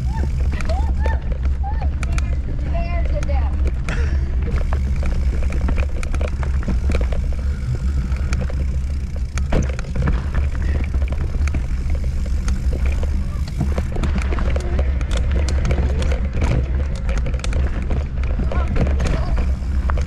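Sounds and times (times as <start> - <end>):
bike rattling over rough trail: 0.0 - 20.0.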